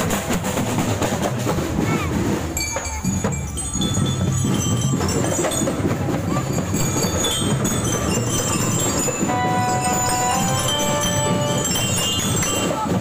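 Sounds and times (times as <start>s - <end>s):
crowd walking and talking: 0.0s - 13.0s
high metallic tinkles: 2.6s - 13.0s.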